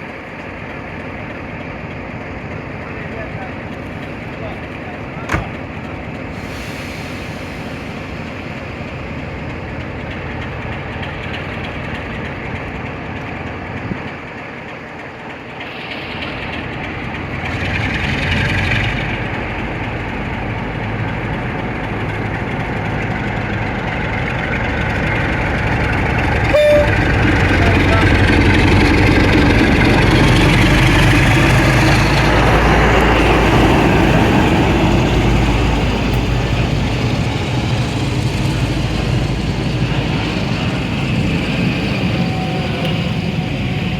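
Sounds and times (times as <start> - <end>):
diesel locomotive engine rumbling: 0.0 - 43.9.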